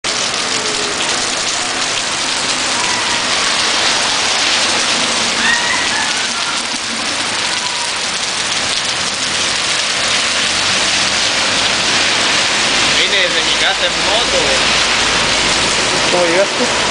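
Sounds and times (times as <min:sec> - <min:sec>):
rain on pavement: 0:00.0 - 0:16.9.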